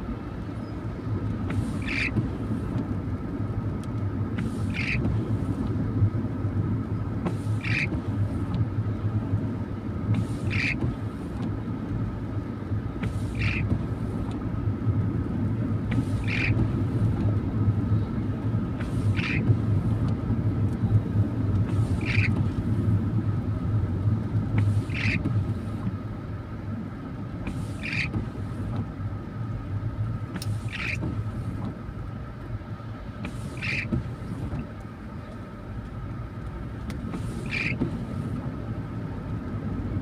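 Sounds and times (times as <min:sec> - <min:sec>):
car engine and tyres on wet road: 0:00.0 - 0:40.0
windscreen wiper swiping: 0:01.2 - 0:40.0.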